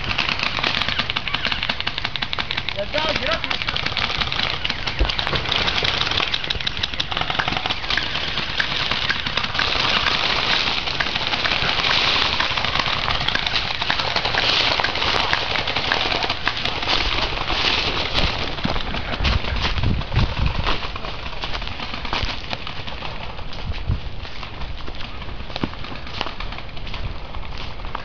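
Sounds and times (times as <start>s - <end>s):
footsteps crackling on dry leaves: 0.0s - 28.0s.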